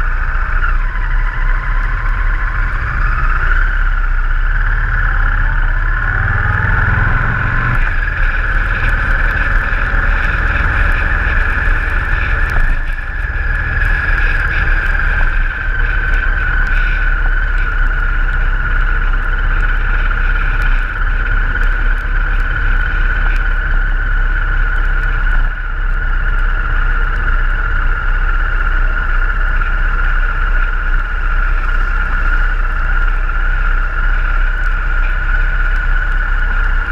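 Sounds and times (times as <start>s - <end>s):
motorcycle engine running: 0.0s - 36.9s
wind rushing over microphone: 0.0s - 36.9s.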